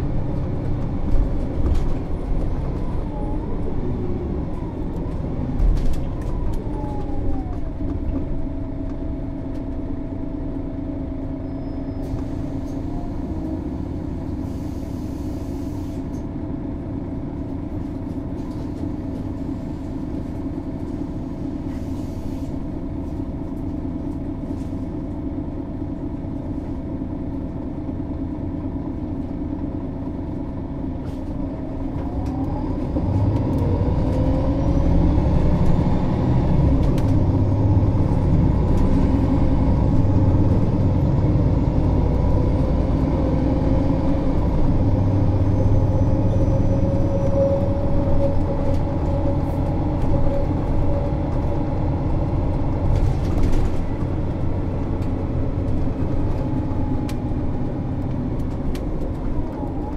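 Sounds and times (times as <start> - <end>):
bus diesel engine idling: 0.0 - 59.9
bus engine accelerating with whine: 0.0 - 59.9.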